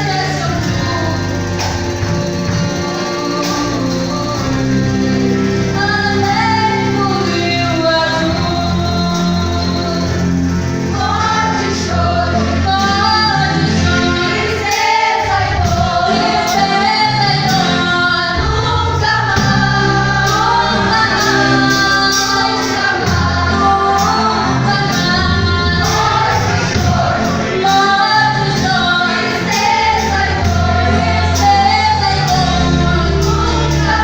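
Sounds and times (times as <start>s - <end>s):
band with bass and drums: 0.0s - 34.0s
group of singers: 0.0s - 34.0s.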